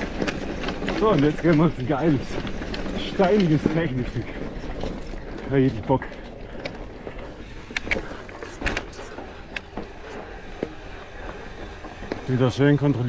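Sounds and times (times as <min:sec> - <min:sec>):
bike knocking and rattling: 0:00.0 - 0:13.0
bike tyres rolling over stones: 0:00.0 - 0:13.0.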